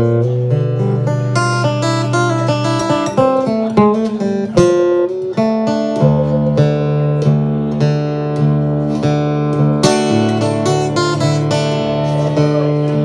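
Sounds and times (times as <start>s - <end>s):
acoustic blues guitar: 0.0s - 13.0s.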